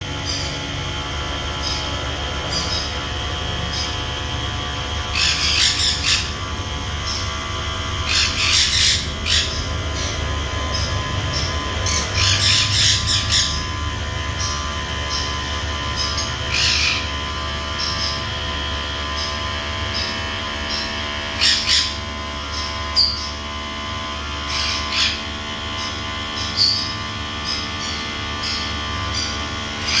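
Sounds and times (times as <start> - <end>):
birds chirping: 0.0 - 30.0
steady low hum: 0.0 - 30.0
birds squawking harshly: 0.1 - 0.8, 1.4 - 30.0.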